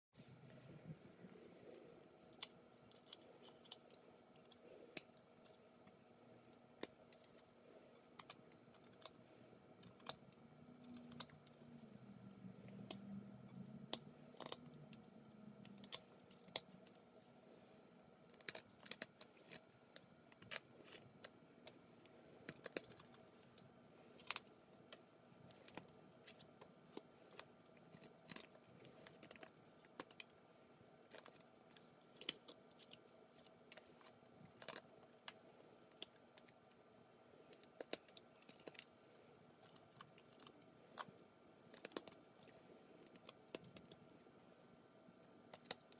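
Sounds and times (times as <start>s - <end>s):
faint low hum: 0.2s - 45.9s.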